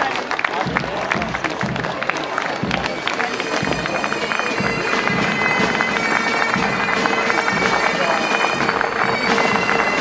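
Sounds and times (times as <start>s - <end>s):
bagpipe drone: 1.0s - 10.0s
bagpipes playing a tune: 1.2s - 10.0s.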